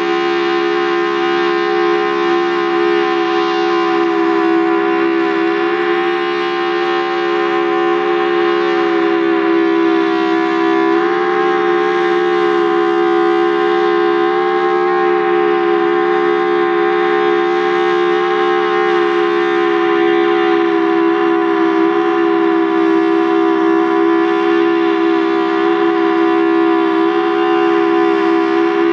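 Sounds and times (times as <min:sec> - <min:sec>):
distant siren: 0:00.0 - 0:28.9
loud bassy siren tone: 0:00.0 - 0:28.9.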